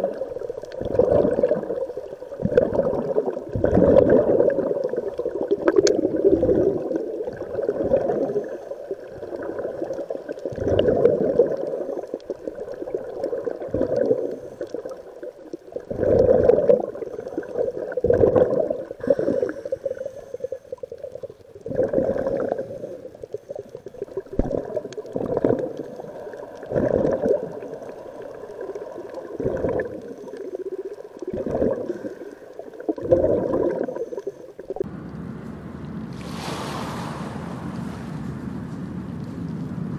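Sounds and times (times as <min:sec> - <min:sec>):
underwater regulator bubbles: 0:00.0 - 0:34.9.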